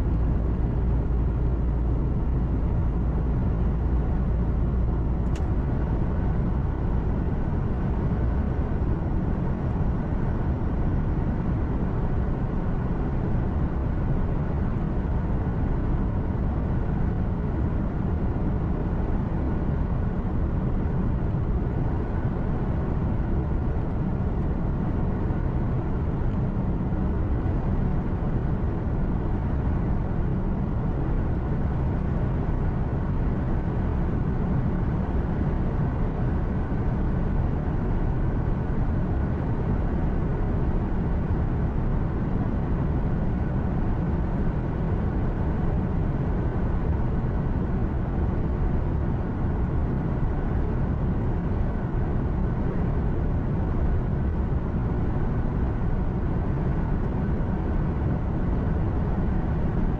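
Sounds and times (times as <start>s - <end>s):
road rumble: 0.0s - 59.9s.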